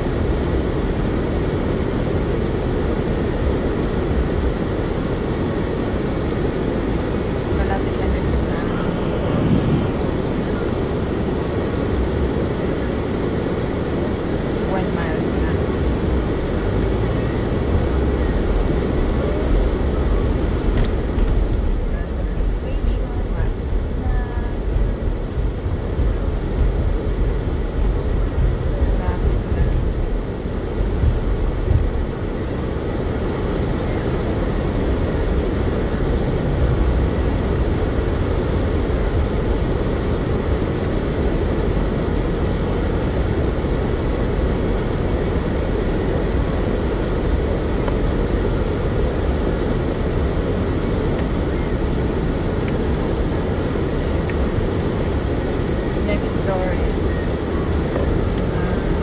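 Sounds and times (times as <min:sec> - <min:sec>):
car cabin rumble and hiss: 0:00.0 - 0:59.0.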